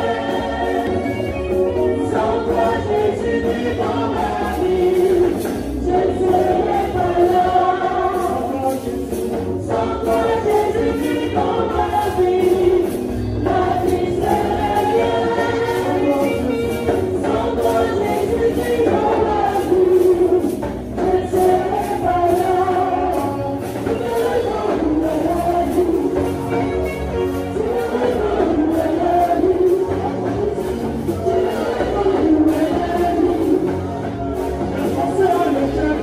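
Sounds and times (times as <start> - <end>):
choir singing through microphones: 0.0 - 36.0.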